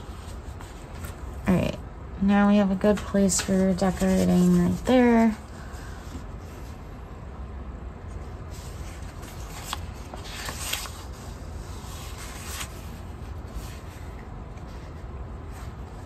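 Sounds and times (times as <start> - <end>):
paper sheets rustling: 0.0 - 1.3, 2.9 - 6.8, 8.2 - 16.0
steady low hum: 0.0 - 16.0.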